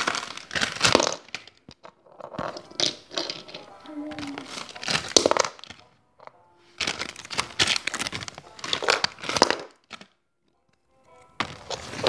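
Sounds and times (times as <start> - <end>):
plastic foil packets crinkling: 0.0 - 12.0.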